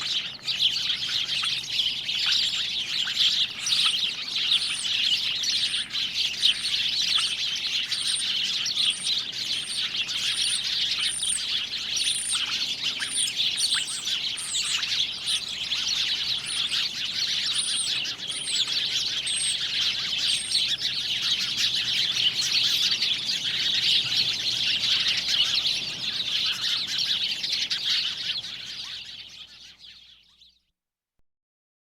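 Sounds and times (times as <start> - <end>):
small birds chirping: 0.0 - 30.7.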